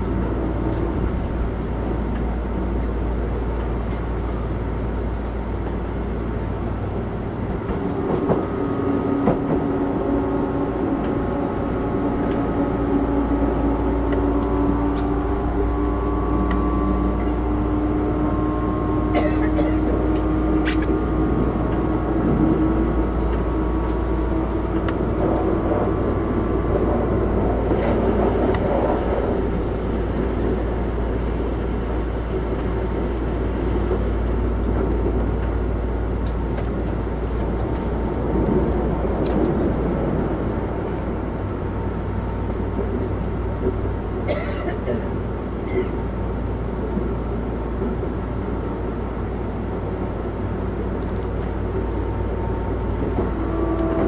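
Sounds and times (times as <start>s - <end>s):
subway train wheels rumbling: 0.0s - 54.0s.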